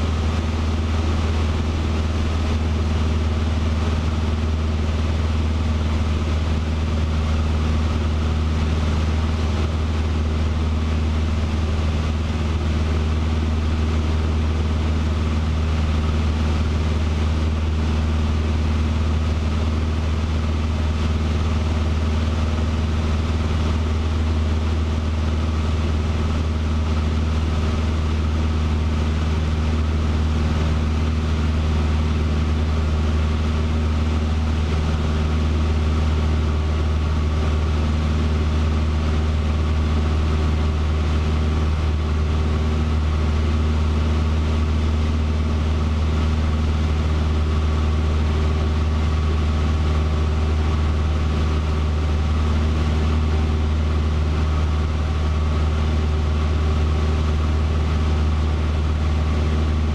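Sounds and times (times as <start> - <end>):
airplane engine drone: 0.0 - 59.9.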